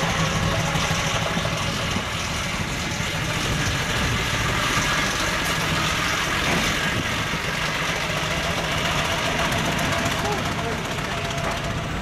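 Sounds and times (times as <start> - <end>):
steam wagon running: 0.0 - 12.0.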